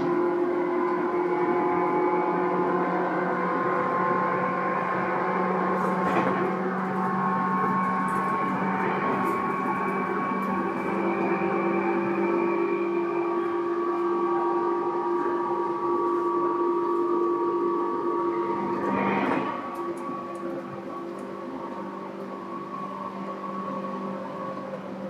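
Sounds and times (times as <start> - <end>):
train motor whine: 0.0 - 25.0
wheel and rail noise: 0.0 - 25.0.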